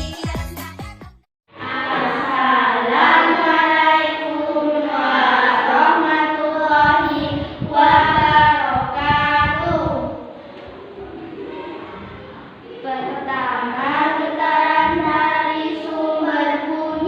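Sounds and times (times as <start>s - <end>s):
voices singing long held notes: 1.6s - 10.0s, 10.6s - 17.0s.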